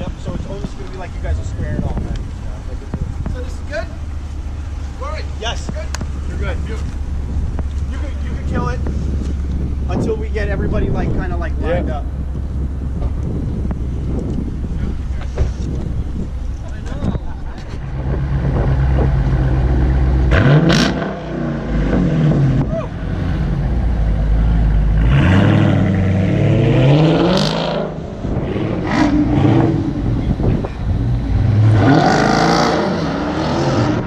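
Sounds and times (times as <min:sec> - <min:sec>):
car engines idling and revving: 0:00.0 - 0:34.0.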